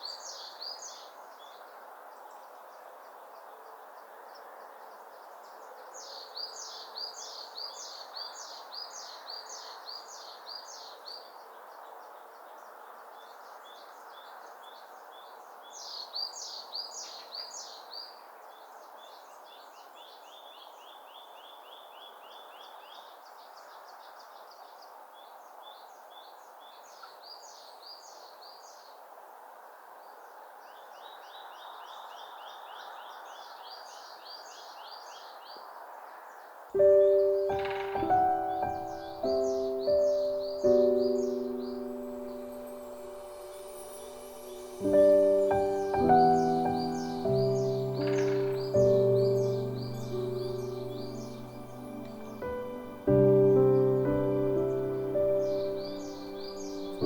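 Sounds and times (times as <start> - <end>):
songbirds singing trills: 0.0 - 29.0, 30.0 - 57.0.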